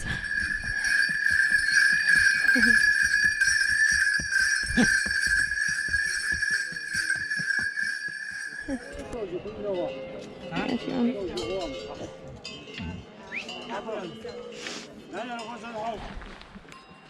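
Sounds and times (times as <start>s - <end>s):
bells jingling: 0.0s - 14.6s.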